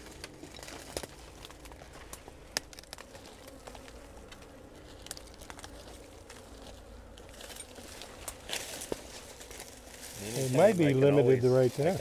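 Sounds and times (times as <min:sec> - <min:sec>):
dry bark crackling: 0:00.0 - 0:12.0.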